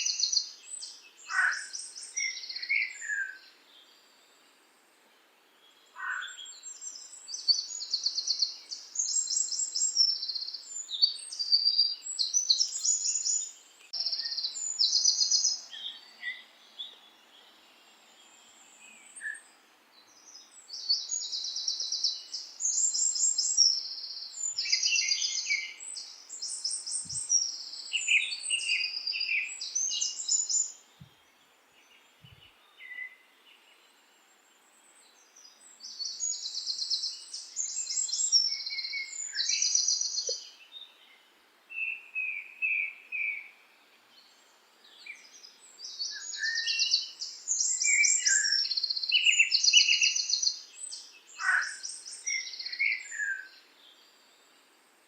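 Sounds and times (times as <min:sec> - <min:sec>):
songbirds chirping trills: 0:00.0 - 0:55.0.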